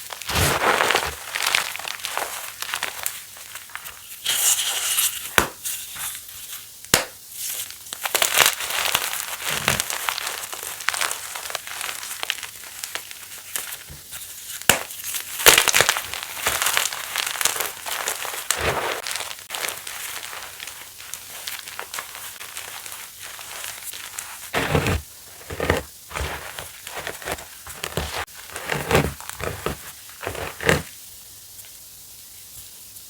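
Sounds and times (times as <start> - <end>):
chalk block crunching: 0.0 - 6.2, 8.0 - 30.9.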